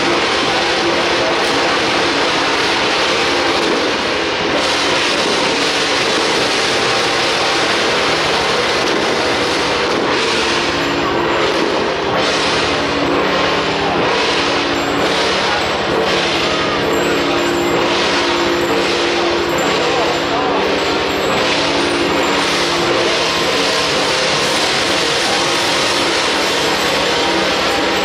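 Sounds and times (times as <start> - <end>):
held instrument tones: 0.0 - 28.0
procession percussion clashing: 0.0 - 28.0.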